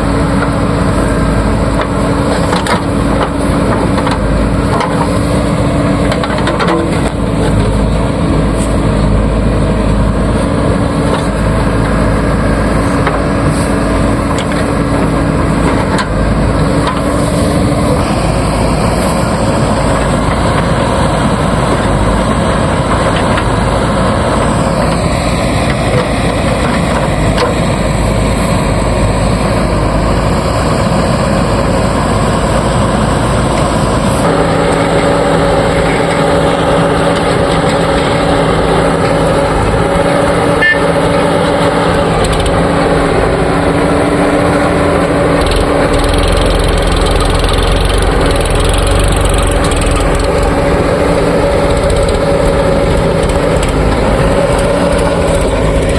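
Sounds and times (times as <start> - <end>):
diesel engine revving: 0.0 - 55.9.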